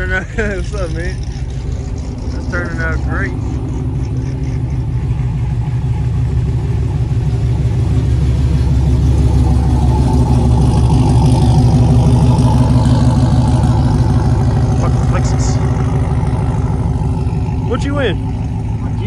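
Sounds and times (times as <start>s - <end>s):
pickup truck engine rumbling: 0.0s - 19.0s.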